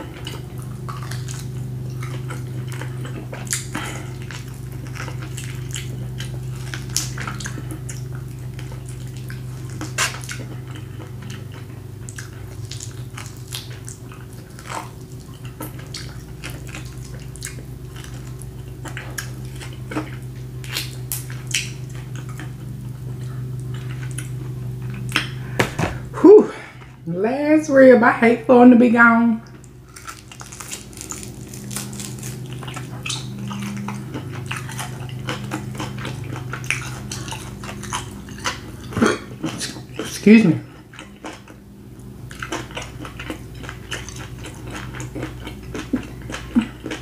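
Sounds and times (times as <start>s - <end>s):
steady low hum: 0.0s - 47.0s
wet chewing and lip-smacking: 0.1s - 25.4s, 29.4s - 47.0s.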